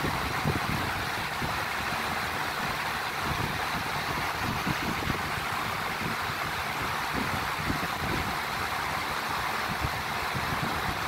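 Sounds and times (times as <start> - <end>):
electric fan running: 0.0 - 11.0.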